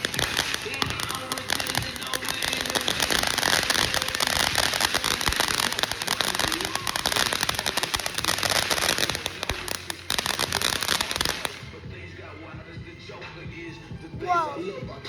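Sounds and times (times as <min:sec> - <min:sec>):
ground firework crackling: 0:00.0 - 0:12.5.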